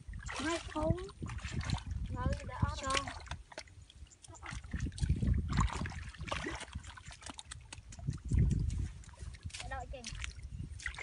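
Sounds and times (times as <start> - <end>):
feet squelching in mud: 0.2 - 11.0.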